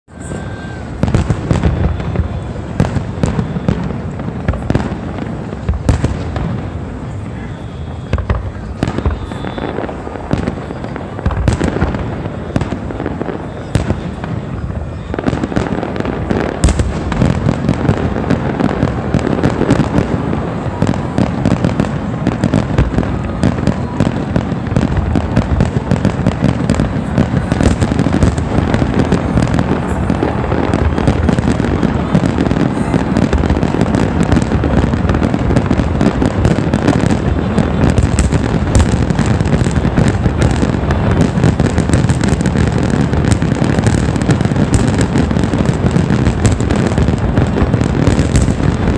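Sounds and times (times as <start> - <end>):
fireworks crackling: 0.1 - 48.9.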